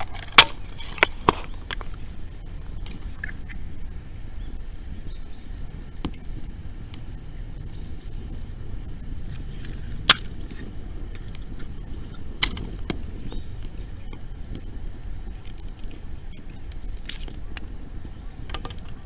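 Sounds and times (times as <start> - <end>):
bonfire popping: 0.0 - 19.0
low rumble: 0.0 - 19.0.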